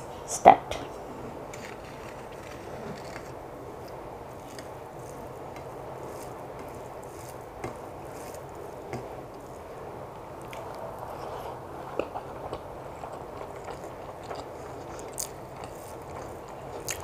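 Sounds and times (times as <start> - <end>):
steady low hiss: 0.0 - 17.0
wet rice squishing: 1.5 - 17.0.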